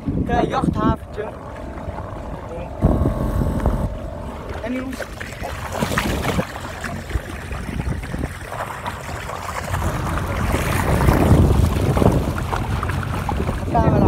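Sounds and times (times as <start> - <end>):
choppy water splashing: 0.0 - 14.0
motorboat engine: 0.0 - 14.0
wind buffeting microphone: 0.0 - 14.0.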